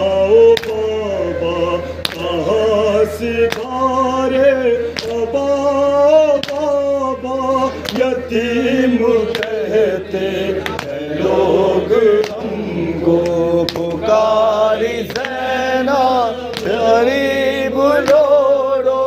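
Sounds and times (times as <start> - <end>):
man chanting a lament: 0.0 - 19.0
sharp slap keeping time: 0.4 - 18.4.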